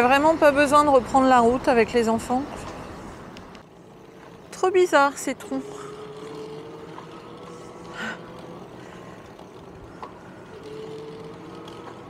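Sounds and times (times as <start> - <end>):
bicycle rolling: 0.0 - 12.0
faint steady whine: 0.0 - 12.0.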